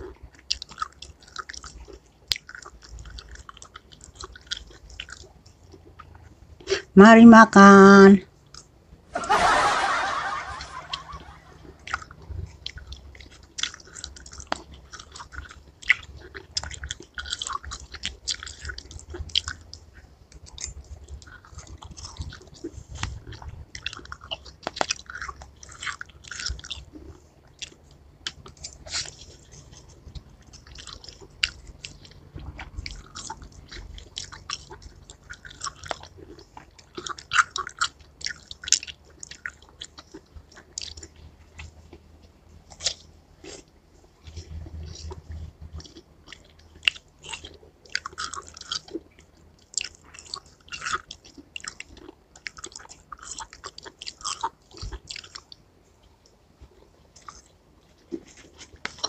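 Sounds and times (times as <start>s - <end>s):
crunchy chewing of watermelon: 0.0s - 6.9s, 11.8s - 59.0s.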